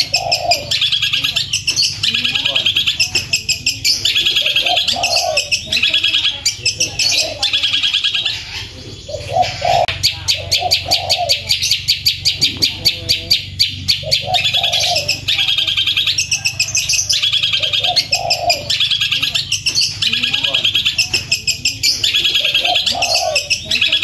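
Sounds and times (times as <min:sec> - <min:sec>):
shrike singing rapid rolling song: 0:00.0 - 0:24.0.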